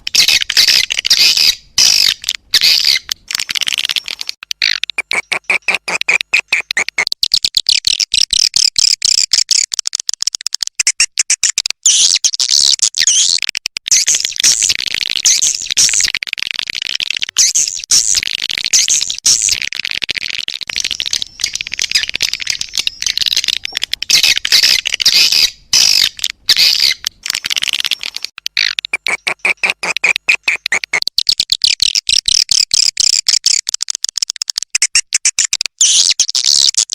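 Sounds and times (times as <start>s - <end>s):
swiftlets twittering and clicking: 0.0s - 36.9s.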